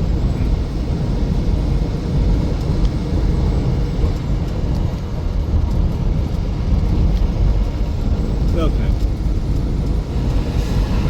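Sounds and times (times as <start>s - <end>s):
road and engine rumble inside vehicle: 0.0s - 11.0s.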